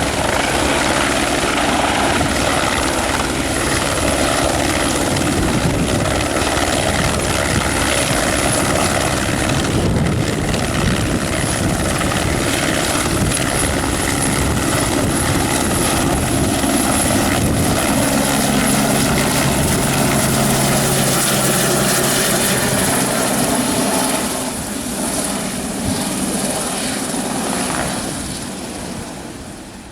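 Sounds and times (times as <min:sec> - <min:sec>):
helicopter rotor beating: 0:00.0 - 0:29.3
helicopter engine whine: 0:00.0 - 0:29.9.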